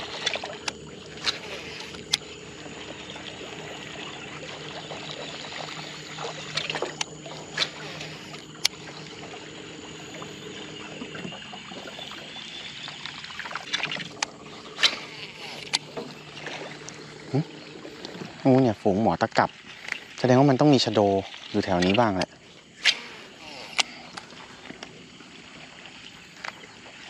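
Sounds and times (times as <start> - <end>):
small boat motor humming: 0.0 - 27.0
water trickling and lapping: 0.0 - 27.0.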